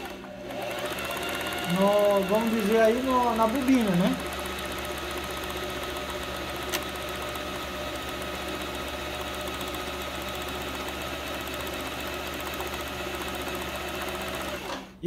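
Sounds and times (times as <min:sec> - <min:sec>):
sewing machine running: 0:00.0 - 0:15.0.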